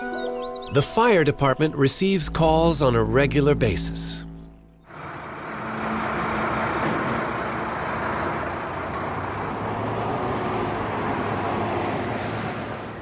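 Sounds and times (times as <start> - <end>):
diesel engine humming: 2.0 - 13.0.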